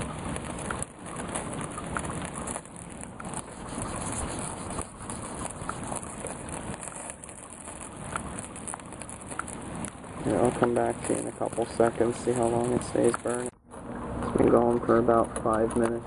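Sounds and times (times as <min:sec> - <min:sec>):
candle sizzling: 0:00.0 - 0:16.0
steady rain: 0:00.0 - 0:16.0.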